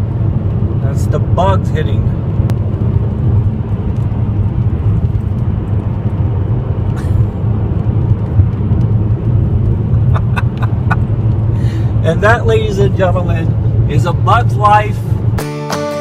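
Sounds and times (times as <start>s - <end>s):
road and engine rumble in car: 0.0s - 15.5s.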